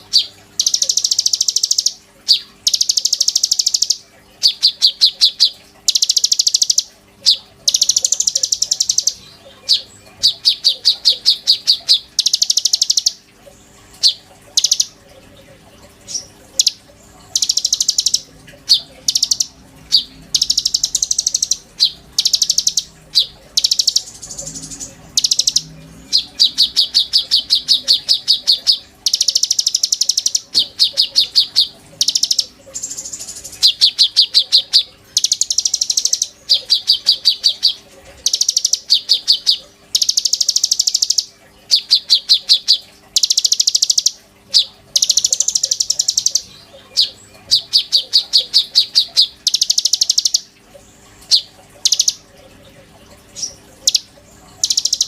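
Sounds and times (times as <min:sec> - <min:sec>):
bird singing in high trills: 0:00.0 - 0:13.2, 0:14.0 - 0:15.0, 0:16.1 - 0:50.6, 0:51.3 - 0:52.2, 0:53.3 - 0:55.0.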